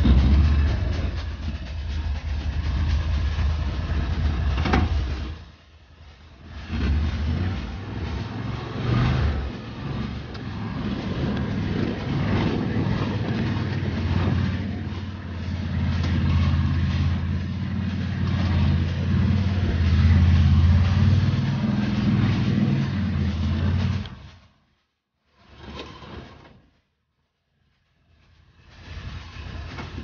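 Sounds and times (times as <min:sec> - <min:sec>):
vehicle engine droning: 0:00.0 - 0:24.9, 0:28.2 - 0:30.0.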